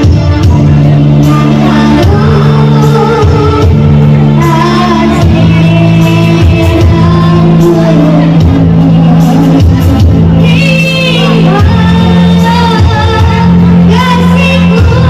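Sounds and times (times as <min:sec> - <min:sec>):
girl singing into a microphone: 0:00.0 - 0:15.0
loud backing track: 0:00.0 - 0:15.0.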